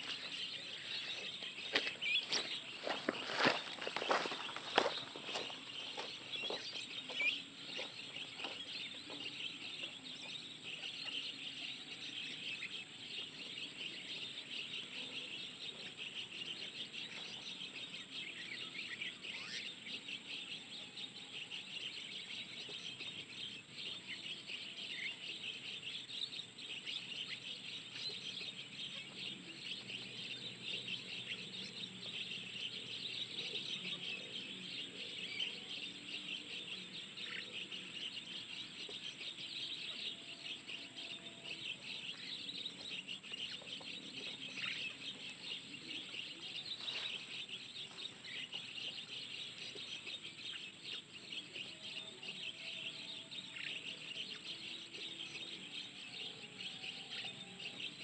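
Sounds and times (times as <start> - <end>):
insects trilling: 0.0 - 58.0
small birds chirping: 0.0 - 58.0.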